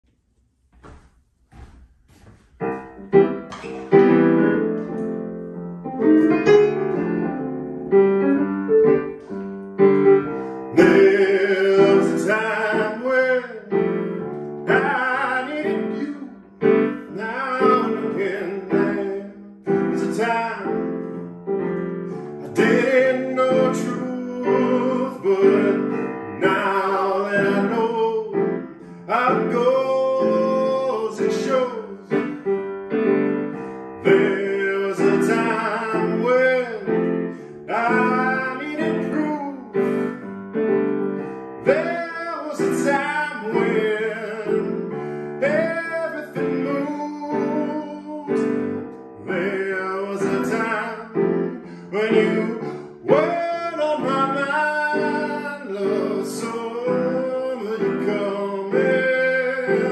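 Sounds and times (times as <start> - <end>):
electric piano playing: 2.6 - 59.9
man singing: 10.3 - 32.5, 33.2 - 40.3, 41.2 - 59.9.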